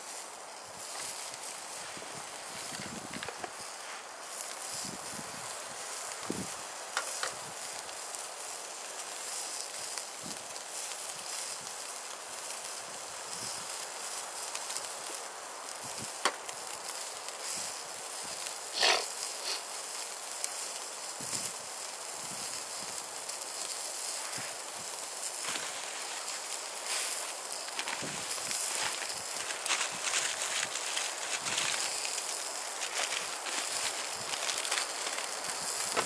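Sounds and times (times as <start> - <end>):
campfire hissing: 0.0 - 36.0
fire pops and crackles: 0.0 - 36.0.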